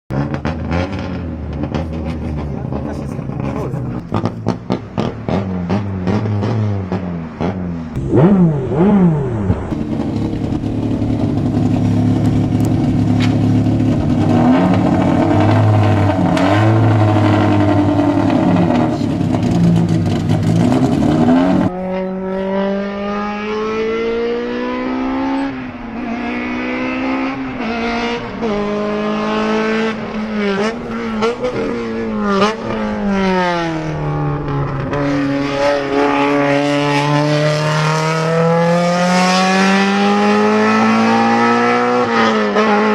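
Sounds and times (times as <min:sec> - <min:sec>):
race car engine revving: 0:00.1 - 0:42.9.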